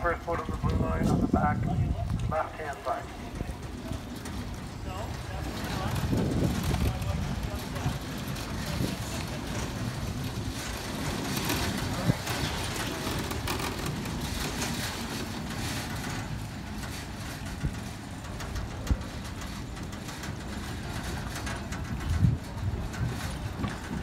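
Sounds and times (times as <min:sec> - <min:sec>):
railway carriage rumbling on rails: 0:00.0 - 0:24.0.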